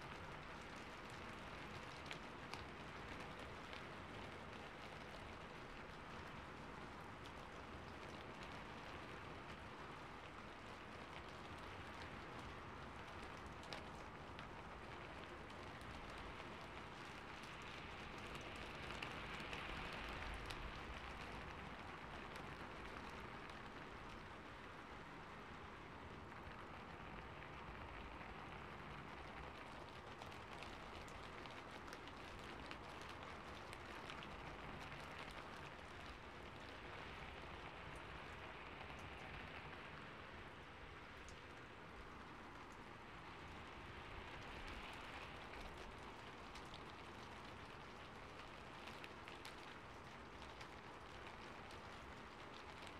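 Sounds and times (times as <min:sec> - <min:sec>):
quiet steady rain: 0:00.0 - 0:52.9.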